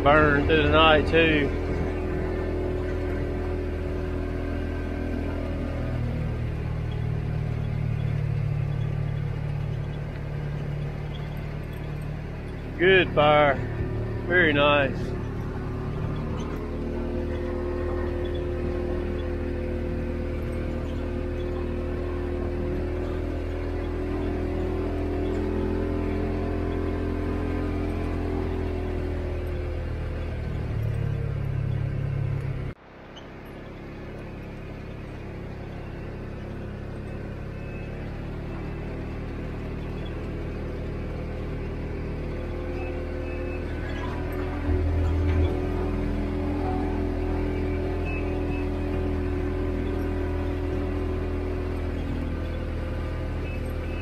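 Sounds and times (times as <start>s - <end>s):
vehicle engine low drone: 0.0s - 54.0s.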